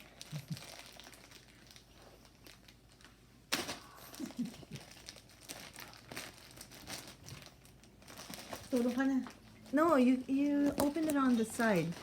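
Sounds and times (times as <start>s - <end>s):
gift packaging crinkling: 0.0s - 12.0s.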